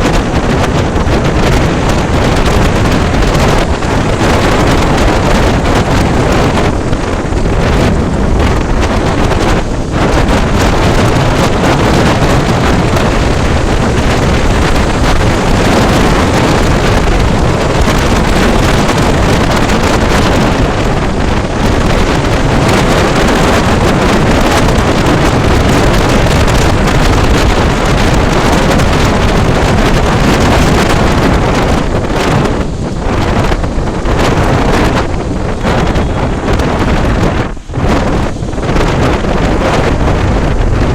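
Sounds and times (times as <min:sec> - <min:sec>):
motorcycle running: 0:00.0 - 0:40.9
wind rushing over microphone: 0:00.0 - 0:40.9.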